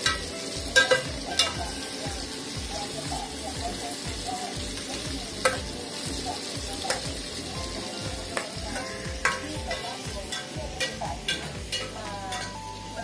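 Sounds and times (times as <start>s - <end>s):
onions sizzling in a pot: 0.0s - 13.0s.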